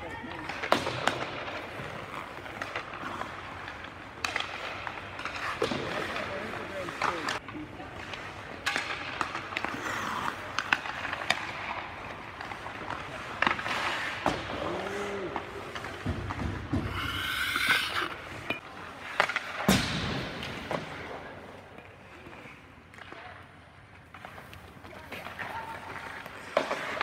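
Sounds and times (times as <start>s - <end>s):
skates scraping on ice: 0.0s - 27.0s
sticks hitting pucks: 0.0s - 27.0s.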